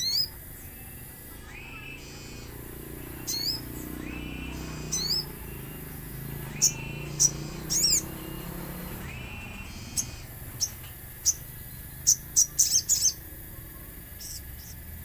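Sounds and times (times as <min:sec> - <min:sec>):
bird giving sharp high calls: 0:00.0 - 0:13.3
high background buzz: 0:00.0 - 0:15.0.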